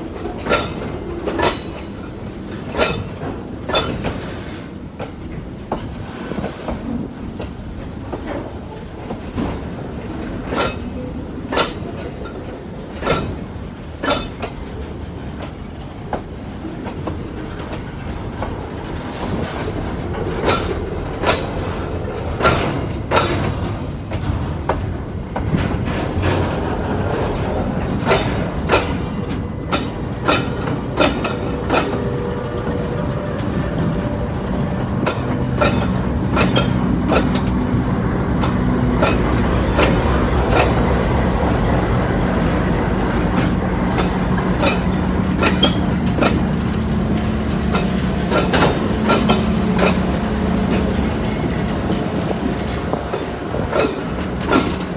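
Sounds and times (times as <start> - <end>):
train wheels knocking over rail joints: 0.0 - 41.5, 42.4 - 54.9
diesel locomotive engine hum: 0.0 - 54.9
freight wagons rumbling: 0.0 - 54.9.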